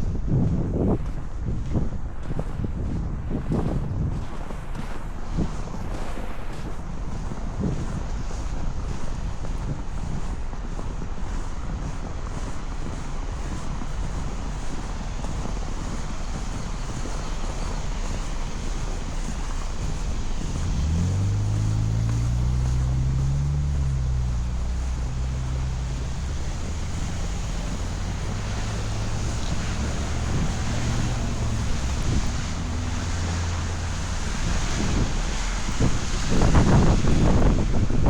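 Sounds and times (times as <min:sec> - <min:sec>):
street traffic: 0:00.0 - 0:38.0
wind on microphone: 0:00.0 - 0:38.0
vehicle engine humming: 0:04.4 - 0:38.0.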